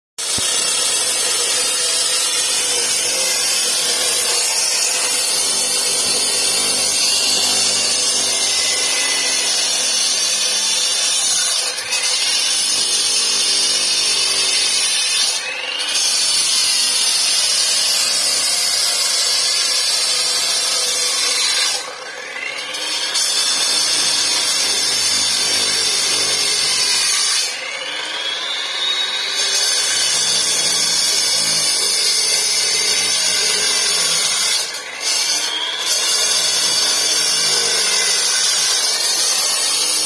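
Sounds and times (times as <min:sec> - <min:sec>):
power cutter grinding concrete: 0:00.2 - 0:40.0.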